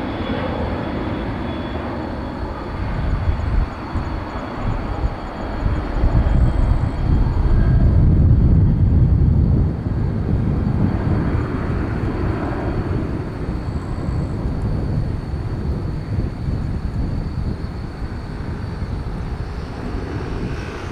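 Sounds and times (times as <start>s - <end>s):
jet engines at takeoff power: 0.0s - 20.9s.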